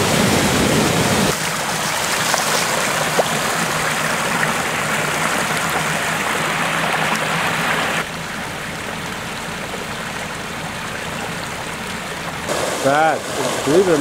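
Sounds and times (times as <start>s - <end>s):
floodwater rushing: 0.0s - 14.0s
water spilling over a curb: 0.2s - 14.0s.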